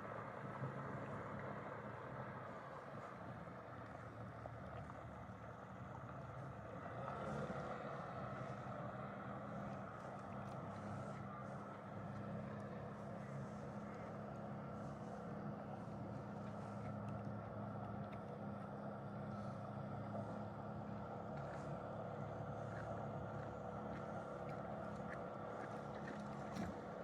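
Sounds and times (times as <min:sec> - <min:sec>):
boat motor running: 0:00.0 - 0:27.0.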